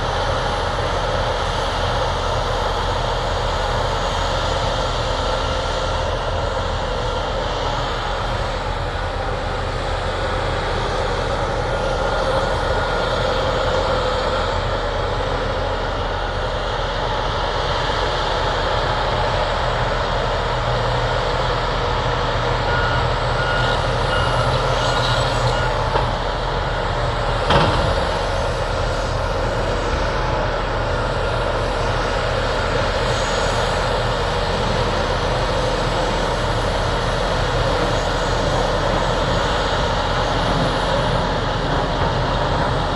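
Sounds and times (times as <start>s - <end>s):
heavy machine diesel engines: 0.0s - 42.9s.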